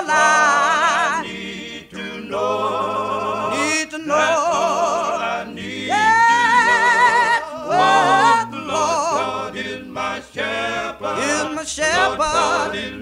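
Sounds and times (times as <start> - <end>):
gospel singer with vibrato: 0.0 - 13.0.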